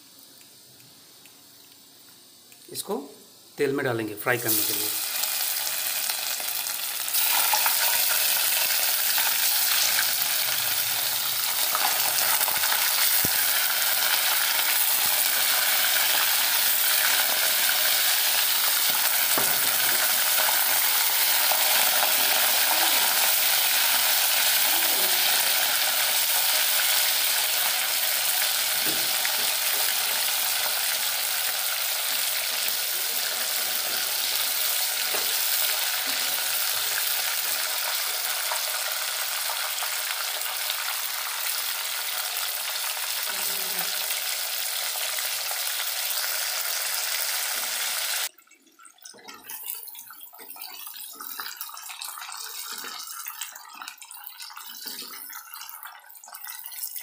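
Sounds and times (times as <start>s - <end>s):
chicken frying in hot oil: 4.4s - 57.0s.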